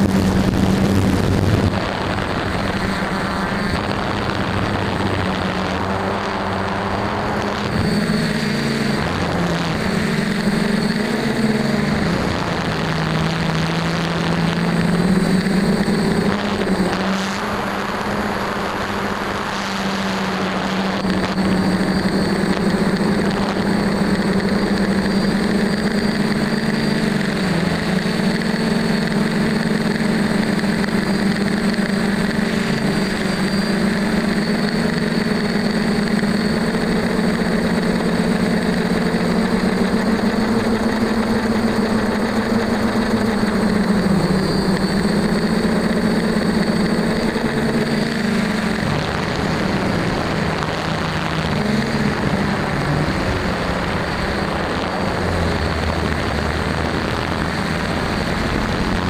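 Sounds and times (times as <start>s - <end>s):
drone motors and propellers humming: 0.0s - 59.0s.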